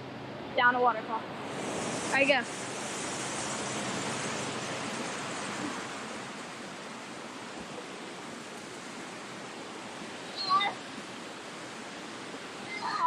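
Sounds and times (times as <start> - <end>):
waterfall rushing: 1.3 - 13.0.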